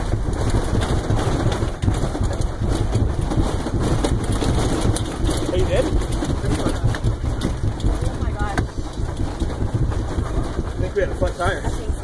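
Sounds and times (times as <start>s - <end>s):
low pulsing rumble: 0.0s - 12.0s.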